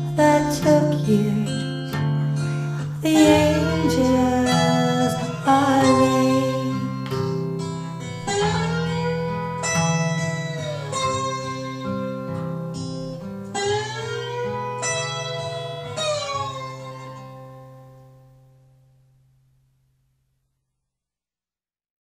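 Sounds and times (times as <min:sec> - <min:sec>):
plucked guitar with bending notes: 0:00.0 - 0:18.7.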